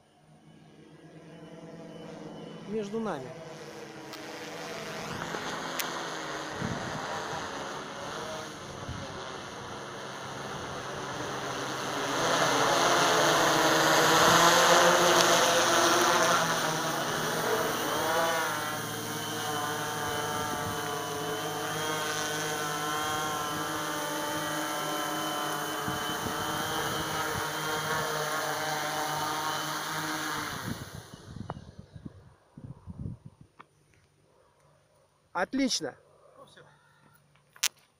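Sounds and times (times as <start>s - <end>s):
drone motors humming: 0.0s - 32.3s.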